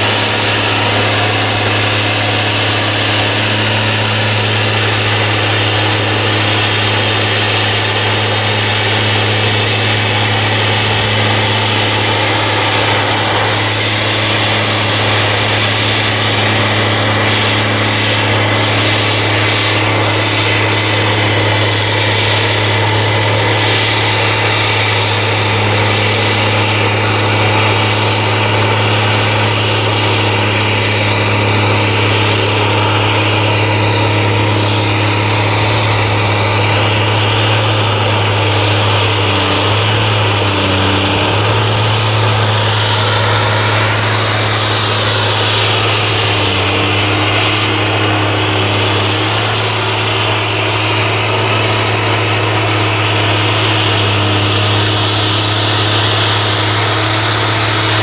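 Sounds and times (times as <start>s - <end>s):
crane diesel engine running: 0.0s - 58.0s.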